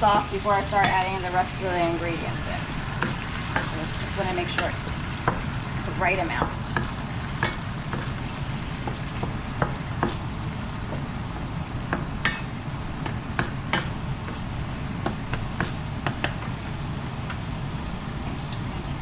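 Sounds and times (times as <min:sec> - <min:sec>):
metal spoon stirring against pan: 0:00.0 - 0:11.1, 0:12.0 - 0:16.6
sauce cooking with low rumble: 0:00.0 - 0:19.0.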